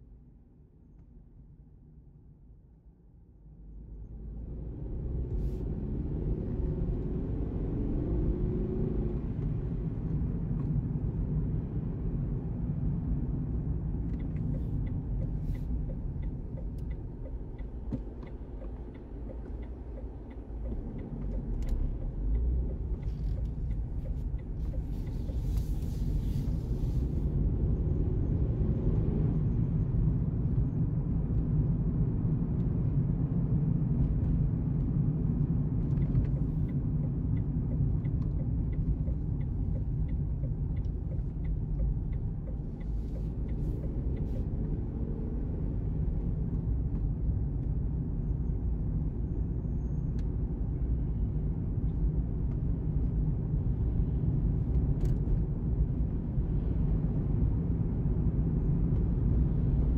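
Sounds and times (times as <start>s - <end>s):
car interior road rumble: 0.0s - 59.9s.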